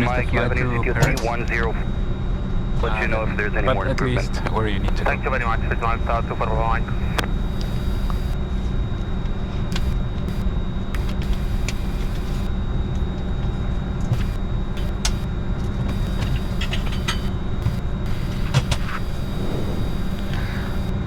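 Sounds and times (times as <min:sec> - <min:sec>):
aircraft cockpit low rumble: 0:00.0 - 0:21.0
faint high whine: 0:00.0 - 0:21.0.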